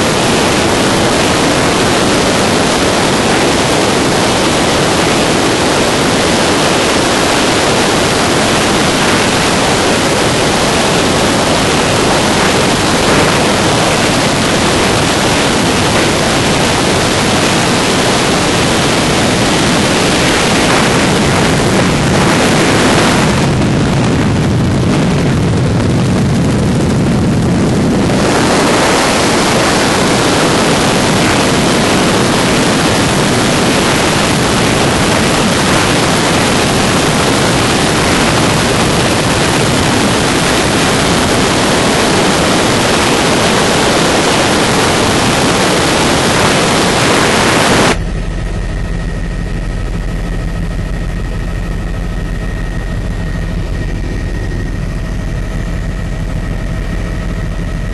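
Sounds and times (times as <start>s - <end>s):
engine drone with high tones: 0.0s - 57.9s
helicopter cabin noise: 0.0s - 57.9s.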